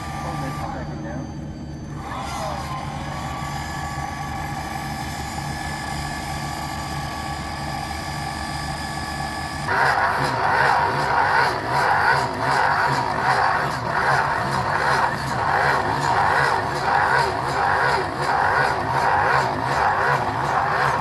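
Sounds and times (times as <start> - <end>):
engine hum: 0.0 - 21.0
pump whine: 0.0 - 21.0.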